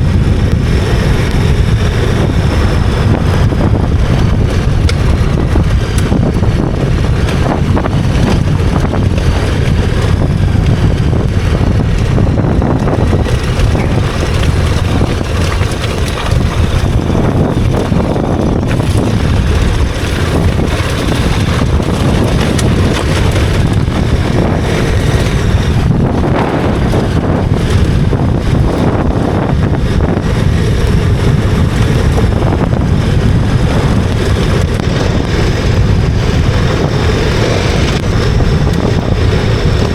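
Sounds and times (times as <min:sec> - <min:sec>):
motorcycle engine: 0:00.0 - 0:39.9
road noise: 0:00.0 - 0:39.9
wind rushing on microphone: 0:00.0 - 0:39.9.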